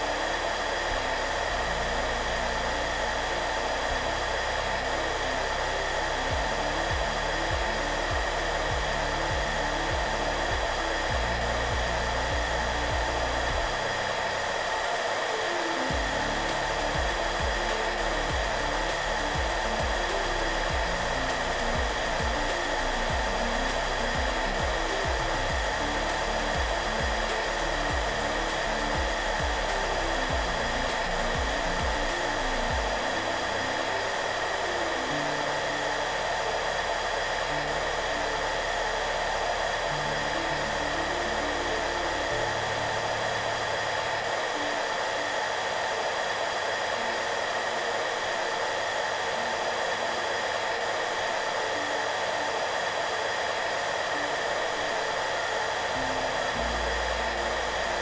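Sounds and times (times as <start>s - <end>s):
hair dryer running: 0.0s - 58.0s
soft background music: 0.0s - 58.0s.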